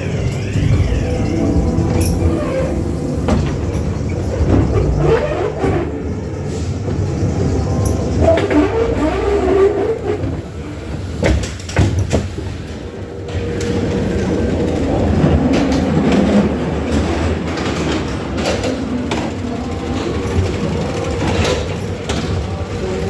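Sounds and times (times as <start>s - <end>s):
ride car rumbling on track: 0.0s - 23.0s.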